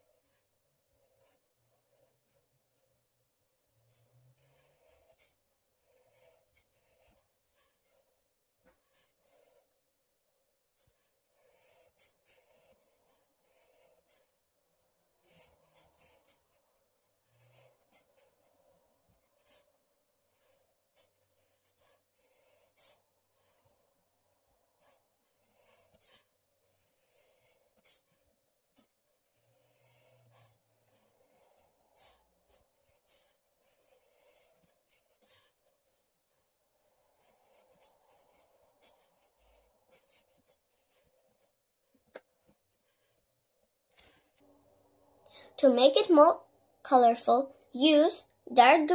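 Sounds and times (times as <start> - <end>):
marker scratching on paper: 0.0 - 3.0, 3.8 - 9.9, 10.7 - 44.4.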